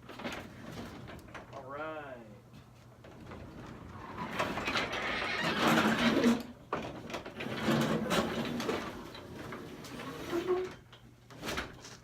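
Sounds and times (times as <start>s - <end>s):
garage door rolling on tracks: 0.0s - 1.6s, 3.0s - 11.9s.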